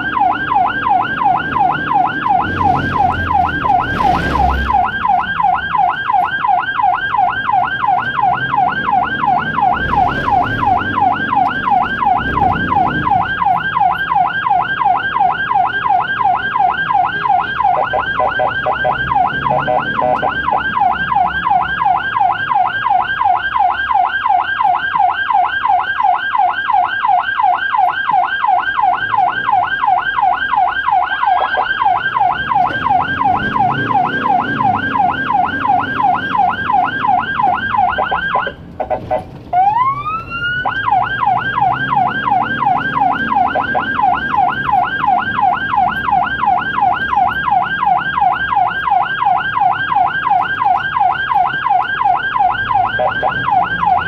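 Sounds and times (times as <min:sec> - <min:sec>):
ambulance siren yelping: 0:00.0 - 0:54.0
vehicle engine rumble: 0:00.0 - 0:54.0.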